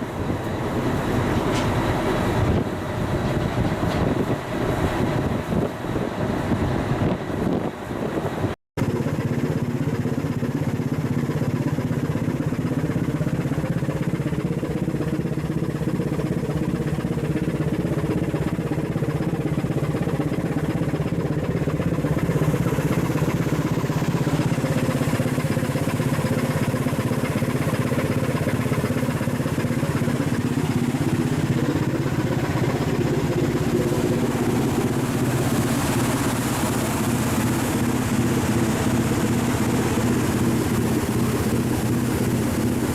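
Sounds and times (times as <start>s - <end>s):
ship diesel engine droning: 0.0s - 42.9s.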